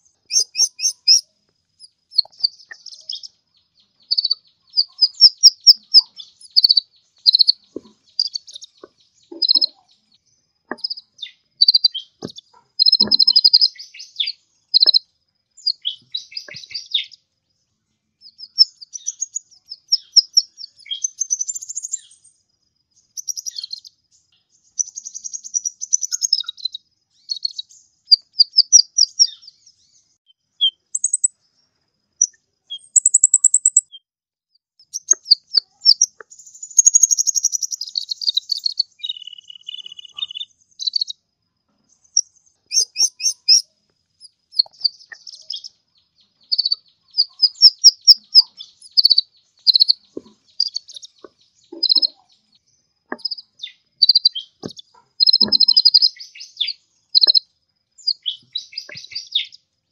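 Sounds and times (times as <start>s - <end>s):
sunbird chirping and trilling: 0.0s - 34.1s, 34.8s - 59.9s.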